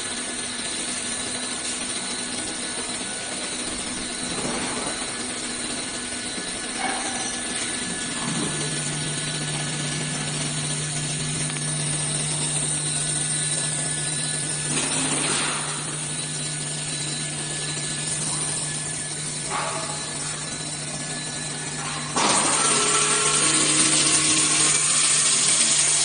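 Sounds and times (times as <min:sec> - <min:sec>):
cnc router humming: 0:00.0 - 0:26.0.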